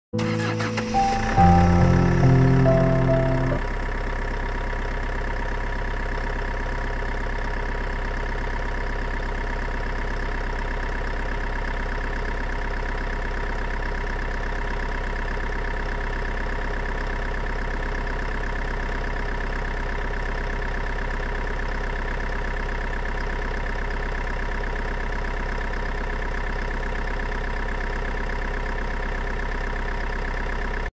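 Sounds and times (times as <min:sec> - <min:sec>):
engine idling: 0:00.2 - 0:30.8.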